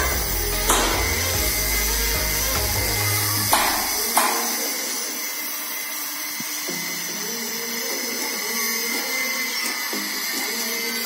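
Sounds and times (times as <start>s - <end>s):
high-pitched machine whirring: 0.0s - 11.0s.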